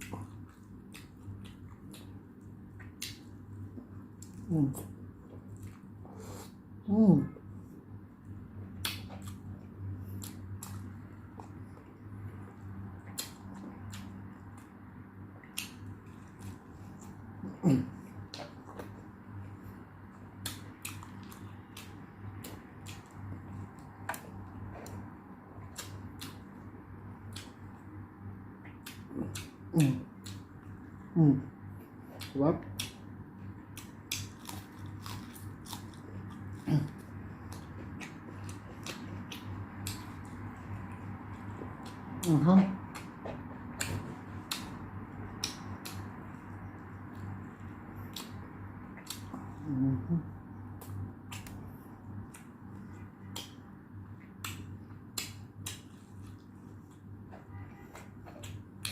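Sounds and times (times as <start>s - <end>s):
wet mouth clicks and chewing: 0.0s - 6.4s, 8.6s - 17.4s, 18.2s - 57.2s, 57.9s - 58.9s
steady low hum: 0.0s - 58.9s.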